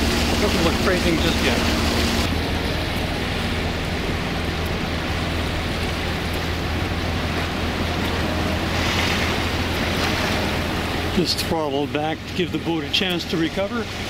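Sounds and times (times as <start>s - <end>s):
boat engine running: 0.0s - 14.0s
rushing swirling water: 0.0s - 14.0s
wind: 0.0s - 14.0s.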